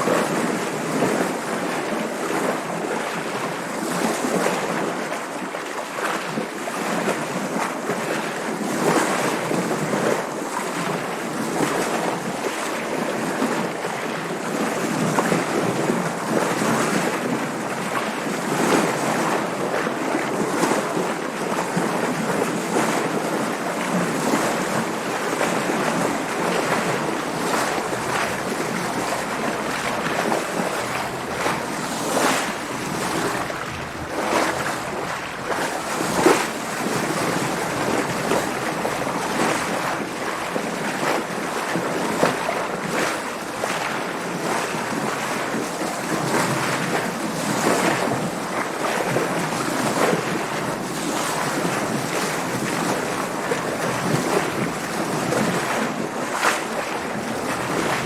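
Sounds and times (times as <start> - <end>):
water rushing around boat: 0.0 - 58.0.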